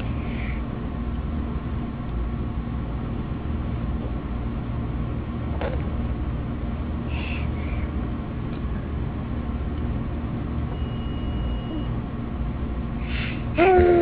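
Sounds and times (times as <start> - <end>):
low rumble of room noise: 0.0 - 14.0.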